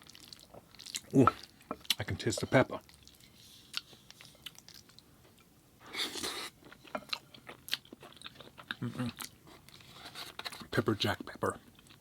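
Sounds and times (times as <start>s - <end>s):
person chewing food: 0.0s - 2.1s, 2.8s - 10.6s.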